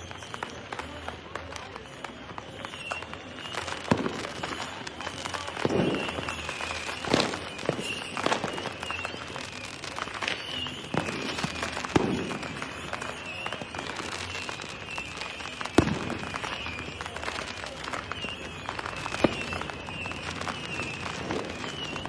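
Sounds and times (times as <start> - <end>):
faint high wavering whistle: 0.0 - 22.0
firecrackers cracking and banging: 0.0 - 22.0.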